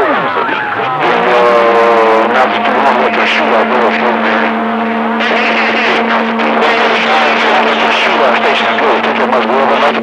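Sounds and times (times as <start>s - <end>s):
garbled radio transmission: 0.0s - 10.0s
radio static hiss: 0.0s - 10.0s.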